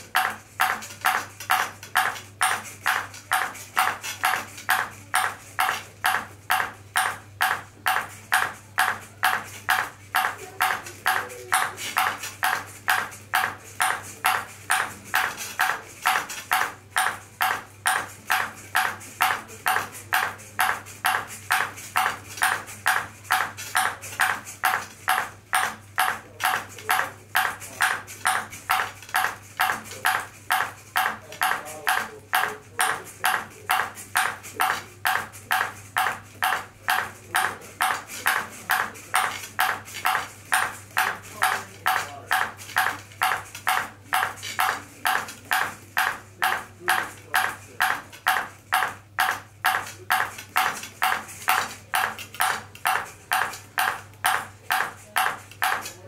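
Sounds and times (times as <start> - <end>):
ping pong ball bouncing on paddle: 0.0 - 56.0.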